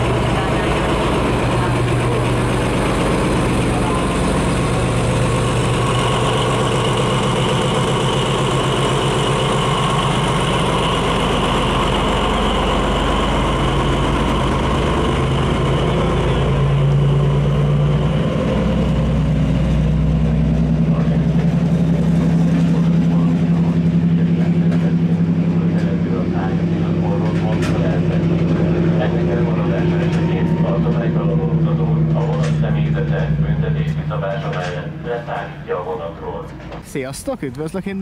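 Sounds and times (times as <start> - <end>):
diesel locomotive engine running: 0.0 - 38.0.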